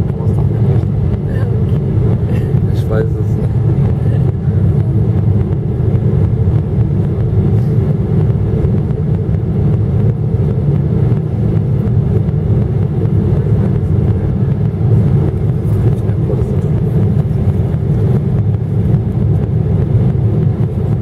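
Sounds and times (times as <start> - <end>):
jet engine drone in cabin: 0.0 - 21.0.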